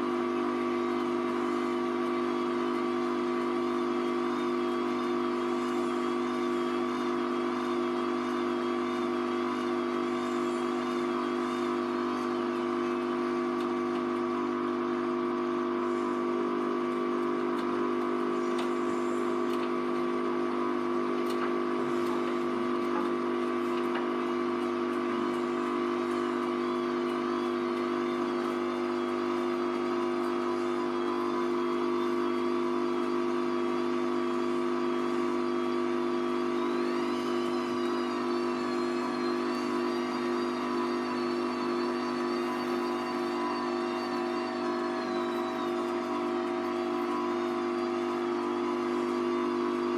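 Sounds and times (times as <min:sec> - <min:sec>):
washing machine motor whine: 0:00.0 - 0:49.9.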